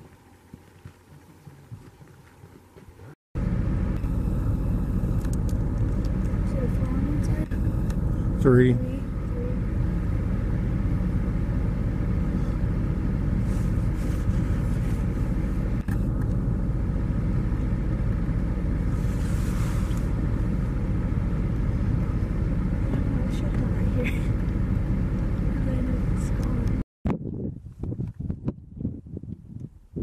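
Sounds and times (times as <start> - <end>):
steady low rumble: 3.0 - 30.0.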